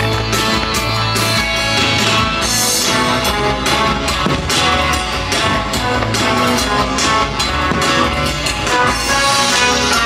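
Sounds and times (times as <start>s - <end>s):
loud rock music with guitar: 0.0s - 10.0s.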